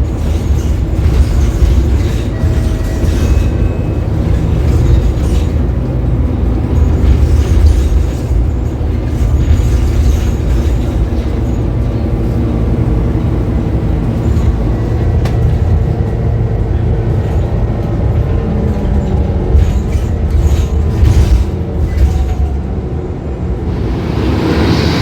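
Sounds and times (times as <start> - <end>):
bus diesel engine rumble: 0.0 - 25.0.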